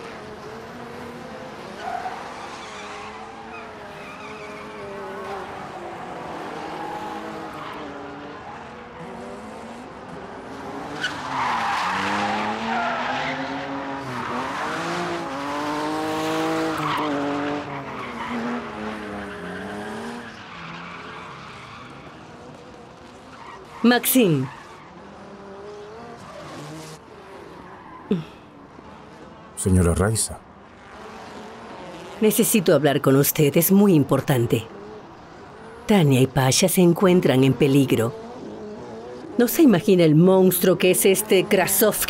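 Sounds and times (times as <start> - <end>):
car engine revving: 0.0 - 28.0, 30.6 - 36.4, 37.1 - 42.0.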